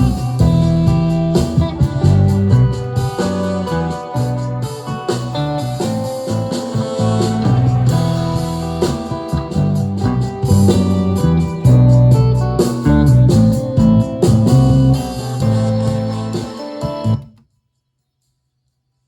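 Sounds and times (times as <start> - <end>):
guitar-led instrumental music: 0.0 - 17.4.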